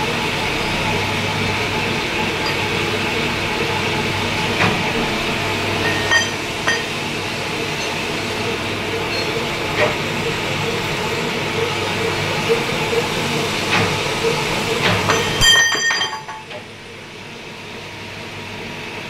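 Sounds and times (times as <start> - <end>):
lathe humming: 0.0 - 19.0.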